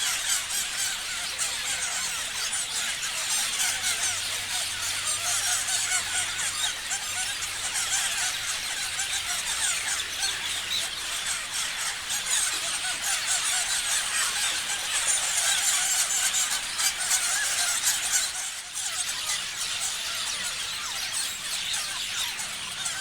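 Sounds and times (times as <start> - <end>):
parrots chirping and screeching: 0.0 - 23.0.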